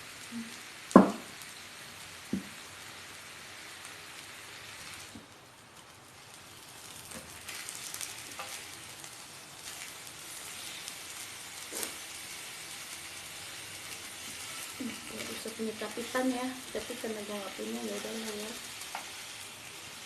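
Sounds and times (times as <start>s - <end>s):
pork sizzling in a pan: 0.0s - 20.0s.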